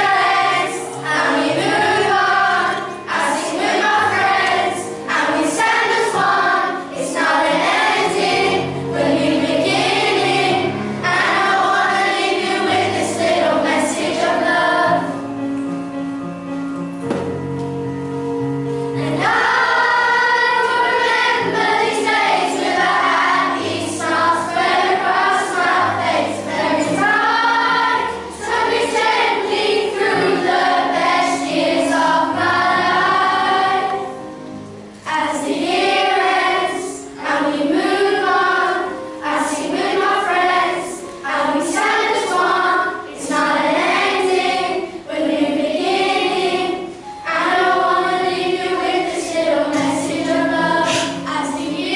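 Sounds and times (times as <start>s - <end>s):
children's choir singing: 0.0s - 16.0s, 18.2s - 51.9s.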